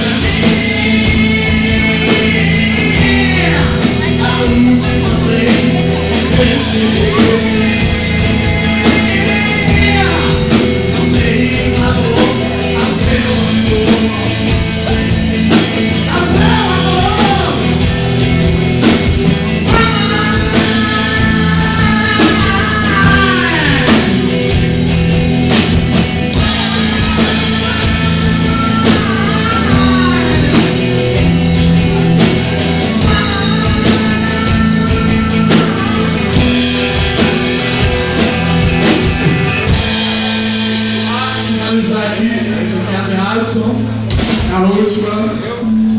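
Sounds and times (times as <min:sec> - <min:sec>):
lead melody of long sliding notes: 0:00.0 - 0:44.1
rock band playing: 0:00.0 - 0:45.9.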